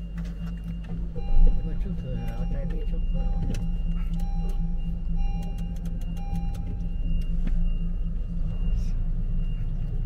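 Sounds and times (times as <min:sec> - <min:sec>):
car cabin rumble: 0:00.0 - 0:10.0.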